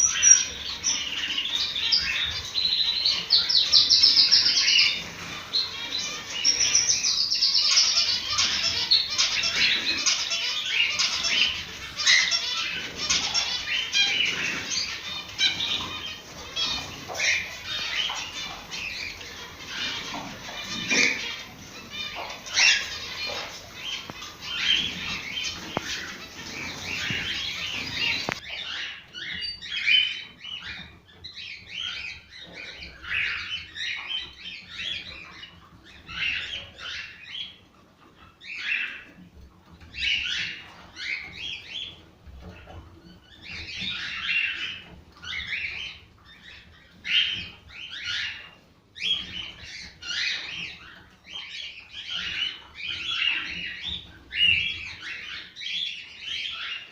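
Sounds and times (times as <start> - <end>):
cockatiels singing and chattering: 0.0 - 56.9.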